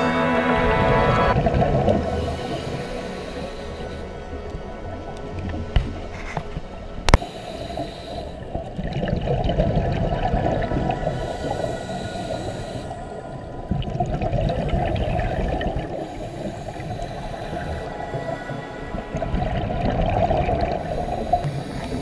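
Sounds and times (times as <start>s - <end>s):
underwater breathing bubbles: 1.2s - 4.7s, 7.1s - 22.0s.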